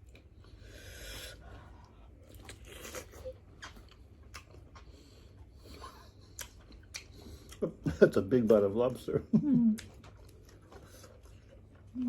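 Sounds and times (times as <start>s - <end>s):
person chewing food: 0.0s - 7.9s, 9.6s - 12.0s.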